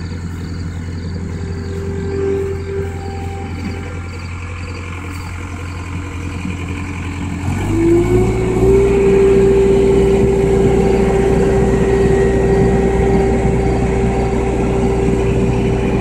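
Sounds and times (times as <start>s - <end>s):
engine throttling up: 0.0s - 16.0s
high whine rising in pitch: 0.0s - 16.0s.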